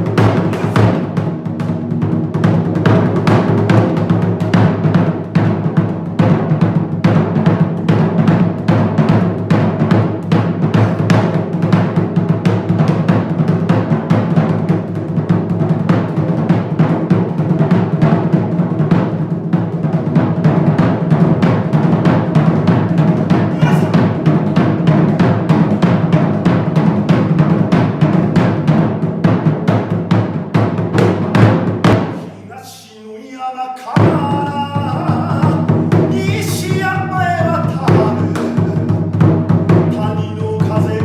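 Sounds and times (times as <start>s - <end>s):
taiko drums: 0.0s - 32.5s, 34.0s - 41.0s.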